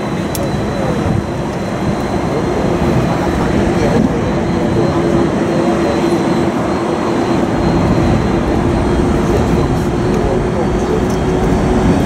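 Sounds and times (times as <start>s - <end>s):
jet aircraft rumble: 0.0s - 12.0s.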